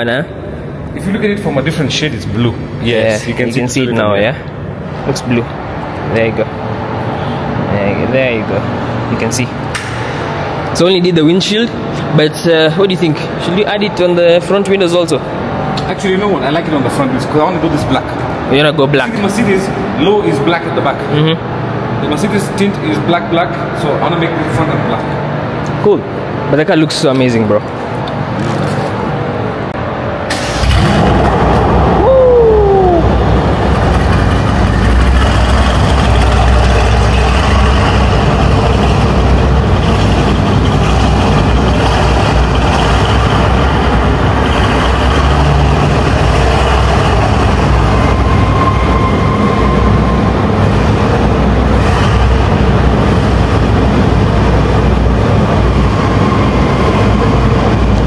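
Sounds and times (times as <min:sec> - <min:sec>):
car engine starting and rumbling: 0:00.0 - 0:58.0.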